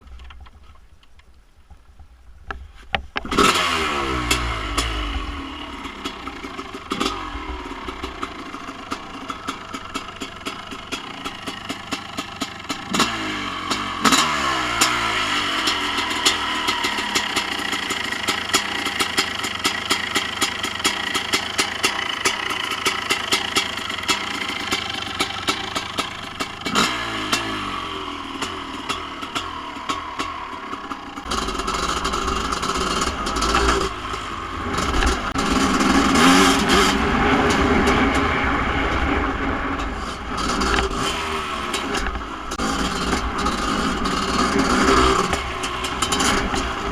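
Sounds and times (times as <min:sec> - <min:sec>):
engine throttle blips: 0:03.2 - 0:46.9
two-stroke engine idling: 0:03.2 - 0:46.9.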